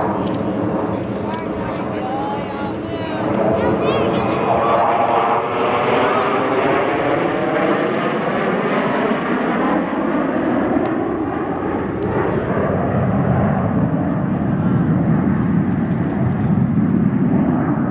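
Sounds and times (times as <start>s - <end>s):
jet engine flying past: 0.0s - 17.9s.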